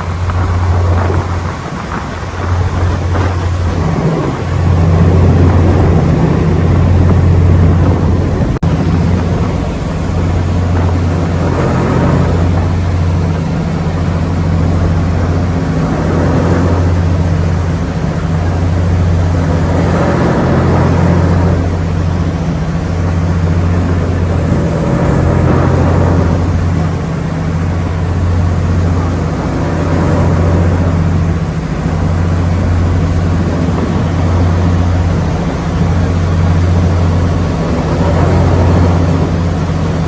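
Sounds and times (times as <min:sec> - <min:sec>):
ferry engine drone: 0:00.0 - 0:40.0
rushing water noise: 0:00.0 - 0:40.0.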